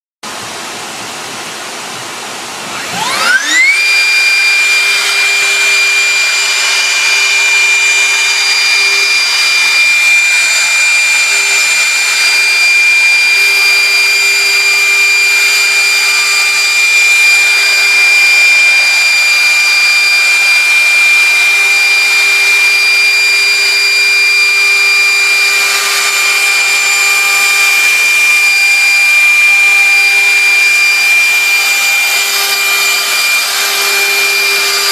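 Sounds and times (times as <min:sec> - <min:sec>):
router spindle whine: 0:00.3 - 0:34.9.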